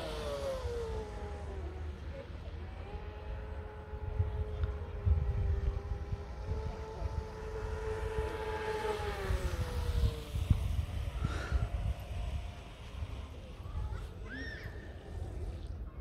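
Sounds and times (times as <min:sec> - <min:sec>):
model boat motor whining: 0:00.0 - 0:15.9
wind rumble on microphone: 0:02.7 - 0:16.0.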